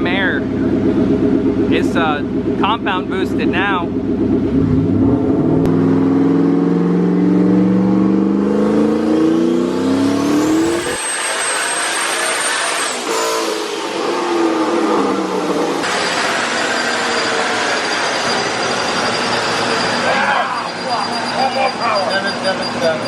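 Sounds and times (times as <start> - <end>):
car engine revving under load: 0.0 - 20.2.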